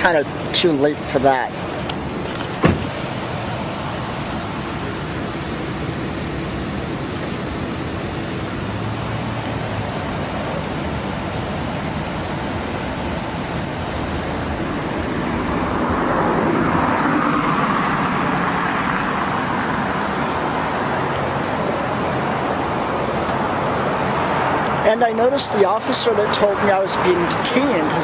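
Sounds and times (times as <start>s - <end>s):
road traffic noise: 0.0s - 28.0s
vehicle passing: 1.3s - 28.0s.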